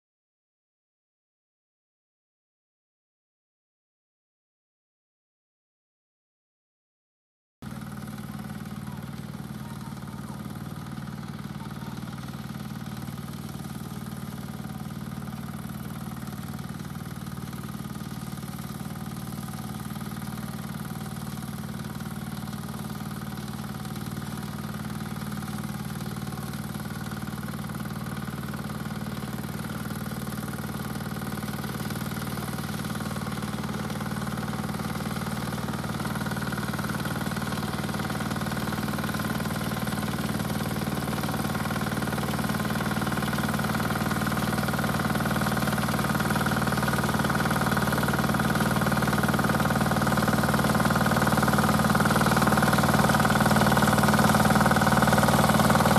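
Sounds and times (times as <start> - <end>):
diesel engine running: 7.6 - 55.9
sickle bar mower cutting hay: 7.7 - 55.9.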